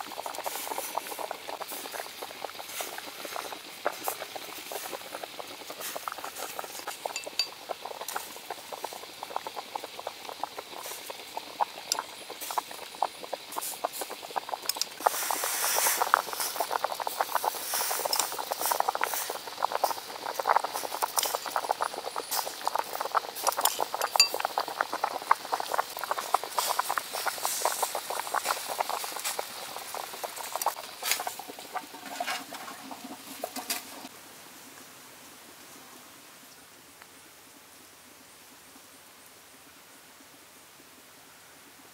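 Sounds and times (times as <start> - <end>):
water bubbling and crackling: 0.0 - 34.1.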